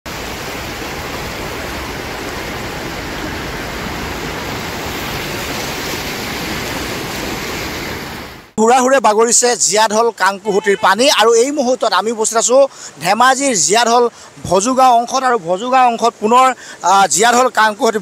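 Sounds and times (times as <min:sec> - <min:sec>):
floodwater rushing: 0:00.0 - 0:08.6, 0:09.4 - 0:18.0.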